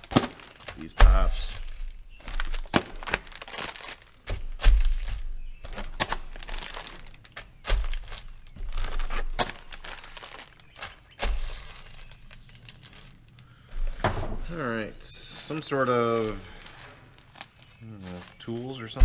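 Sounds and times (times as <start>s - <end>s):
bubble wrap snapping: 0.0s - 13.5s, 15.5s - 18.8s
bubble wrap crinkling: 0.0s - 14.0s, 15.2s - 19.0s.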